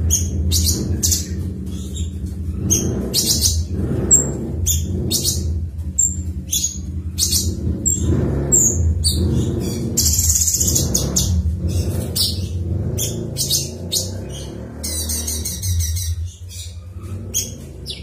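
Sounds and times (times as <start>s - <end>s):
bird singing: 0.0s - 18.0s
steady low hum: 0.0s - 18.0s.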